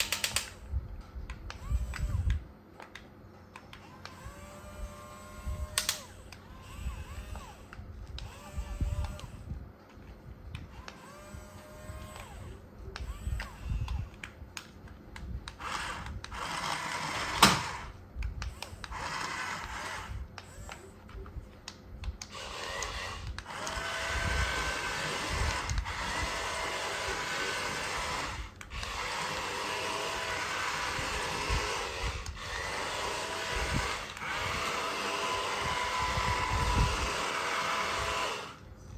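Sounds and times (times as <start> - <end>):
toy electric motors whirring: 0.0 - 38.9.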